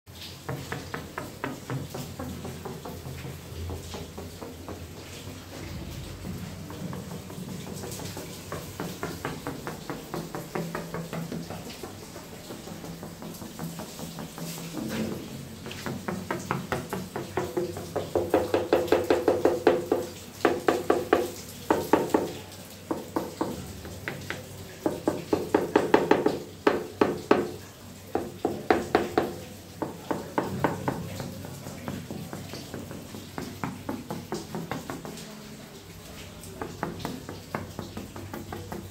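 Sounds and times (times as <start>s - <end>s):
rapid knocks on ceramic tiles: 0.4s - 5.3s, 6.4s - 38.9s.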